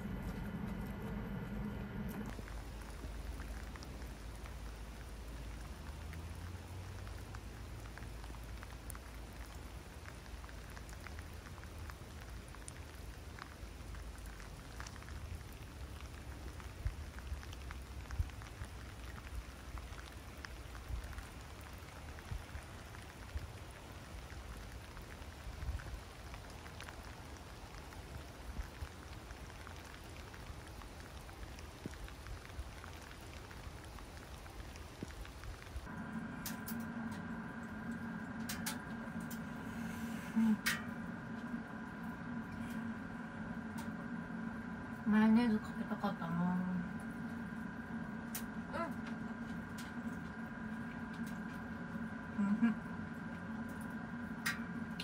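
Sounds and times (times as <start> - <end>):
heavy rain: 0.0 - 55.0
raindrops ticking: 2.1 - 55.0.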